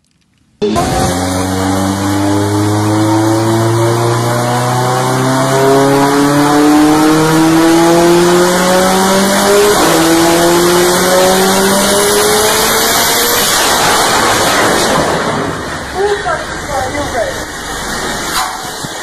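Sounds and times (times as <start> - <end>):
turbo car engine revving: 0.6 - 15.9.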